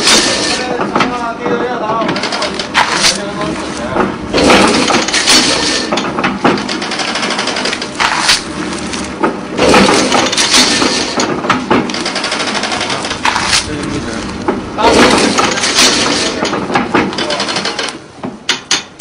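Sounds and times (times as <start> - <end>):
braiding machine clattering: 0.0 - 8.5, 9.1 - 19.0
steady low hum: 0.0 - 18.5.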